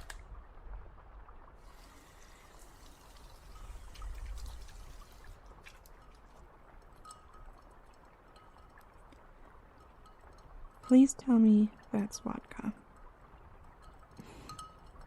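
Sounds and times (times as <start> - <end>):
liquid trickling as poured: 1.5 - 15.0.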